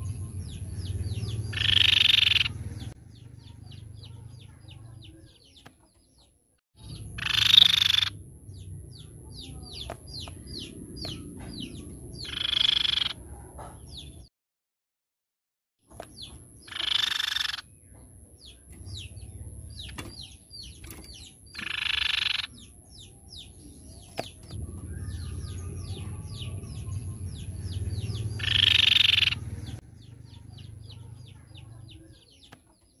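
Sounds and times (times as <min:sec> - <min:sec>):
bird harsh calls: 0:00.0 - 0:05.6, 0:06.8 - 0:14.3, 0:15.9 - 0:32.4.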